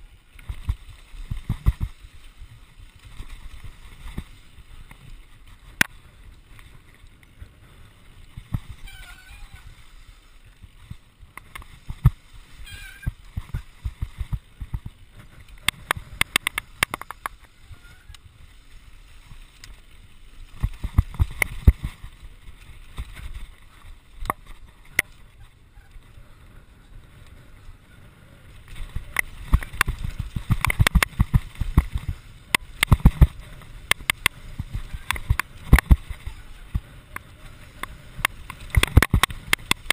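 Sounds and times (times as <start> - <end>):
tyres crunching over loose ground: 0.0 - 27.8, 28.4 - 39.9
mountain bike rattling: 0.0 - 39.9.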